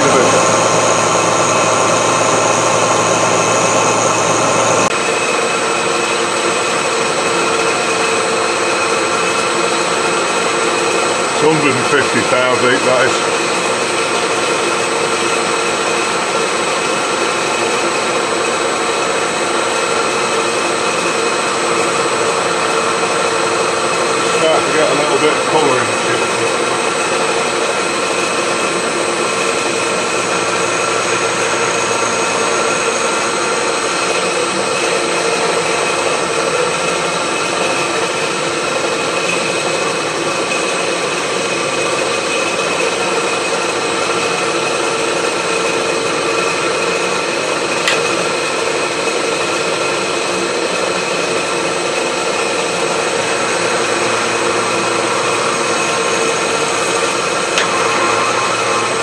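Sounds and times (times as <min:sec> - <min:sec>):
milling machine cutting steel: 0:00.0 - 0:06.8, 0:10.2 - 0:16.2, 0:19.3 - 0:40.0, 0:43.0 - 0:59.0.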